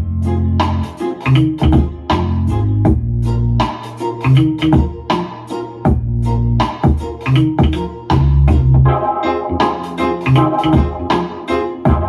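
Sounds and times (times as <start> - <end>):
music with heavy bass and beat: 0.0 - 12.0.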